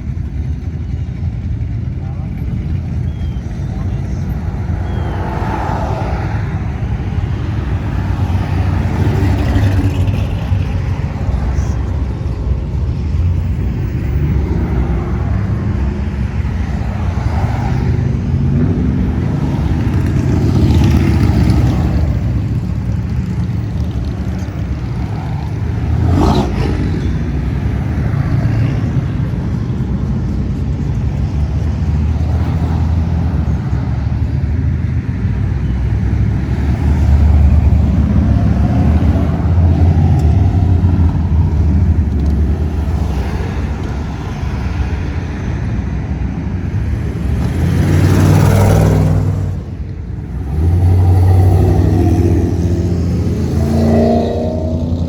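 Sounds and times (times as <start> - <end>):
car engines rumbling past: 0.0 - 55.0.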